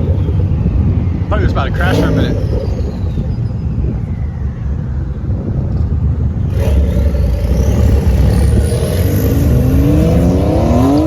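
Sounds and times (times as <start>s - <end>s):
car engine accelerating: 0.0s - 4.3s, 5.9s - 11.0s.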